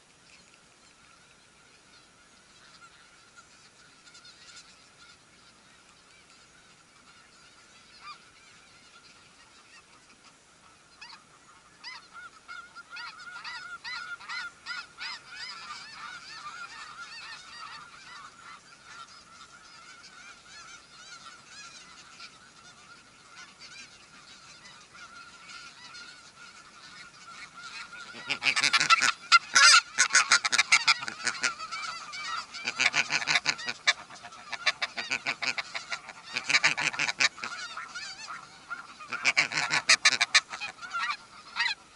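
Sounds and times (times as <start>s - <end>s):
geese honking: 0.8s - 41.9s.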